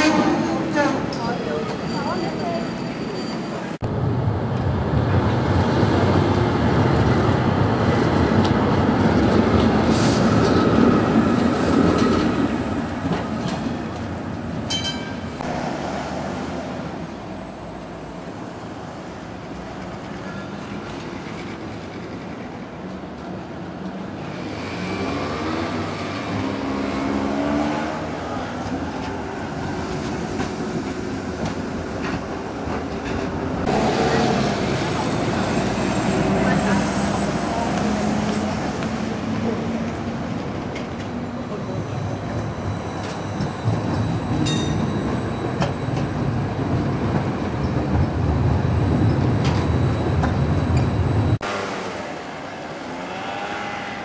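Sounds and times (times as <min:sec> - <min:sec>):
street traffic noise: 0:00.0 - 0:54.0
tram wheels rumbling on rails: 0:00.0 - 0:54.0.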